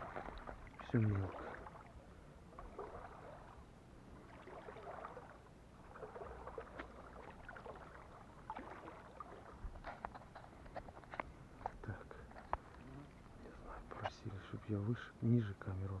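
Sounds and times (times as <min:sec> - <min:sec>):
water splashing around wading legs: 0:00.0 - 0:13.6.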